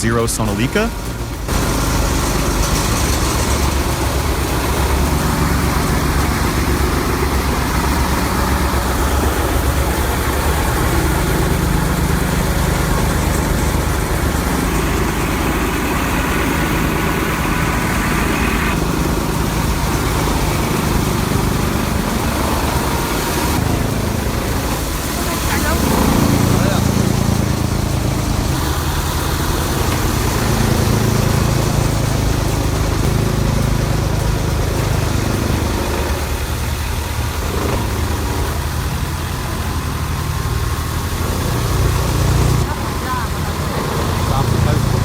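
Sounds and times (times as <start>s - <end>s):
shredding machine running: 0.0s - 45.0s.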